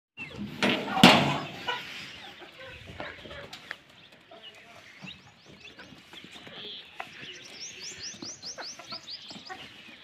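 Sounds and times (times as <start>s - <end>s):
chickens clucking: 0.2s - 10.0s.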